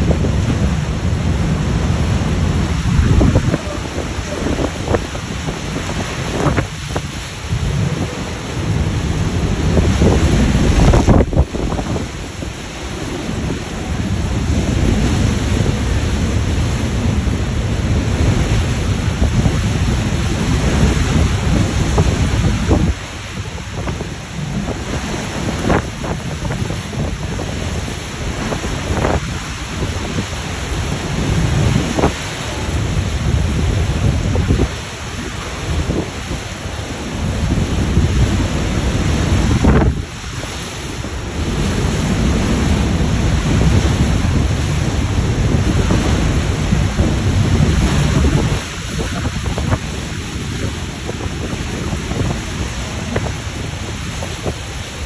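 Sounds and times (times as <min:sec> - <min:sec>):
heavy rain hissing: 0:00.0 - 0:55.0
surf: 0:00.0 - 0:55.0
wind gusting against microphone: 0:00.0 - 0:55.0.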